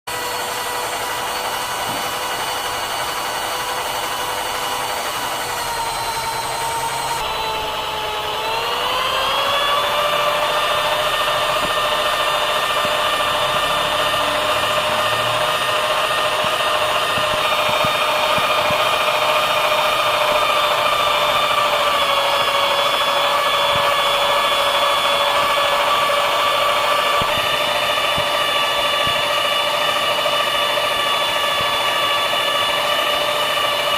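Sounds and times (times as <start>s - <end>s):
power tool motor whining: 0.1s - 33.9s.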